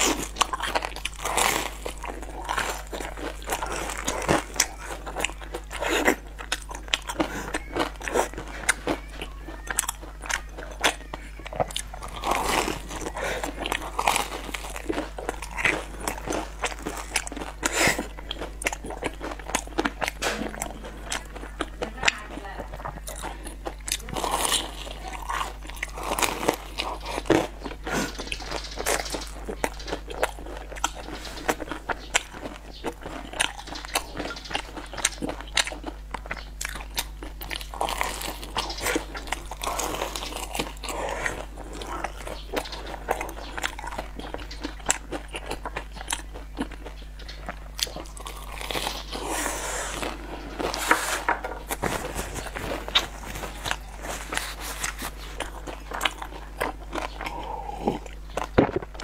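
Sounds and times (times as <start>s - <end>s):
crunchy chewing of pastry: 0.0s - 59.0s.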